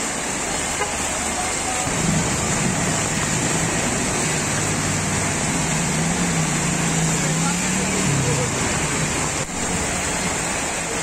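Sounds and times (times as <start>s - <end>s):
heavy rain: 0.0s - 11.0s
rushing floodwater: 0.0s - 11.0s.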